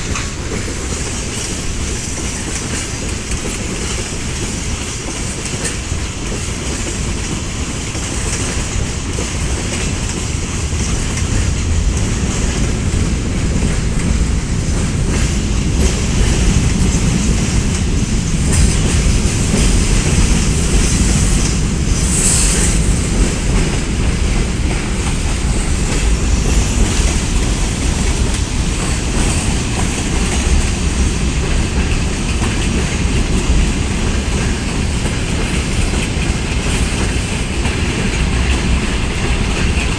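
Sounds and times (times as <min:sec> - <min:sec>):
freight train rumbling on rails: 0:00.0 - 0:39.9
wheels clickety-clack over rail joints: 0:00.0 - 0:39.9.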